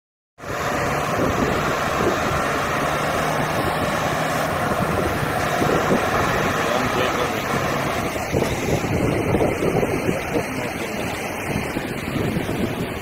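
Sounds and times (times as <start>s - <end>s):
tractor engine running: 0.4s - 13.0s
wind rumbling on microphone: 0.4s - 13.0s.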